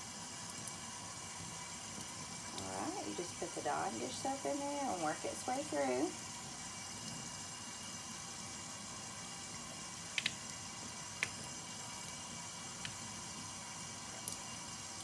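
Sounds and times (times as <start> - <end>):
soapy water washing hair: 0.0 - 15.0.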